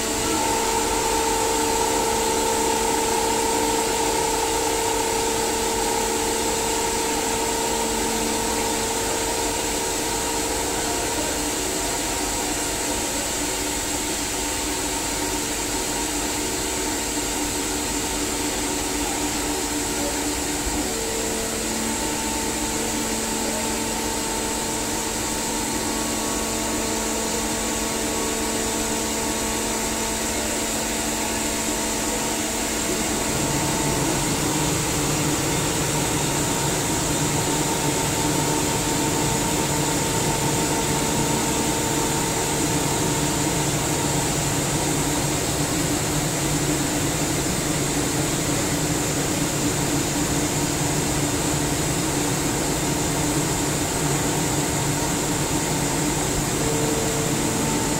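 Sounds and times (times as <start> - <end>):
air compressor humming and hissing: 0.0 - 57.9.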